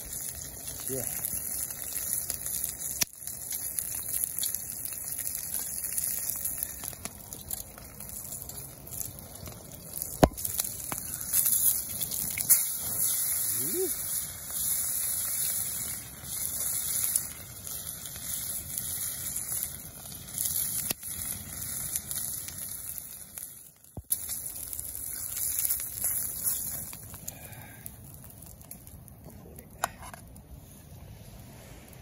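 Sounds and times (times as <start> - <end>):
meat sizzling in frying pan: 0.0 - 28.8
campfire crackling: 0.0 - 32.0.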